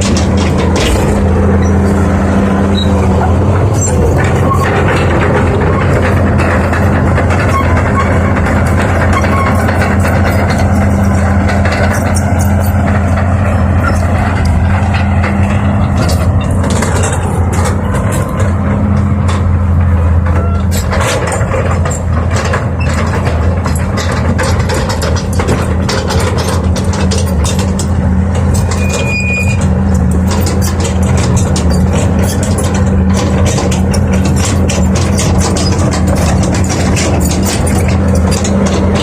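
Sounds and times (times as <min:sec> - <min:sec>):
diesel engine running: 0:00.0 - 0:39.0
sharp knocks and rattles: 0:00.0 - 0:39.0.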